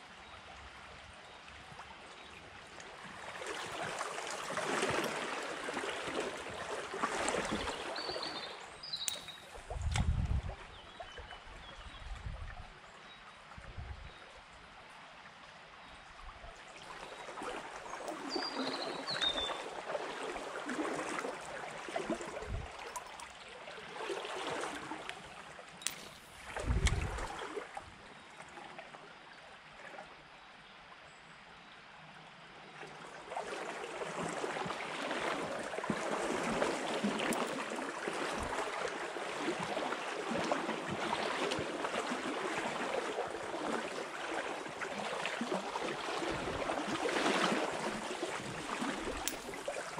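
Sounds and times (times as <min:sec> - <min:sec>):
stream water sloshing: 0:00.0 - 0:31.4, 0:32.3 - 0:49.9.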